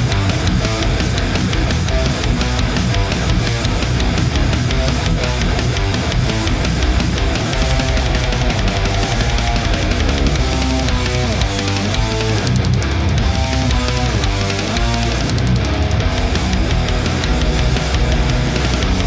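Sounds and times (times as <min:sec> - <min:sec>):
distorted electric guitar riffing: 0:00.0 - 0:19.0.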